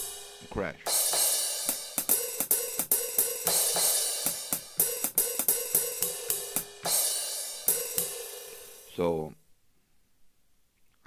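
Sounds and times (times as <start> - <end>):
crash cymbal hits ringing: 0.0 - 9.0
hi-hat ticks: 0.0 - 9.0
ride cymbal strokes: 0.0 - 9.0.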